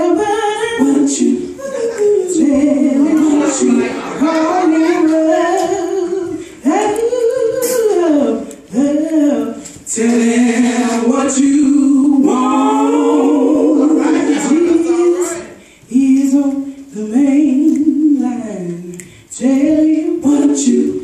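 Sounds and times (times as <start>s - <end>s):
vocal group singing a cappella: 0.0s - 21.0s.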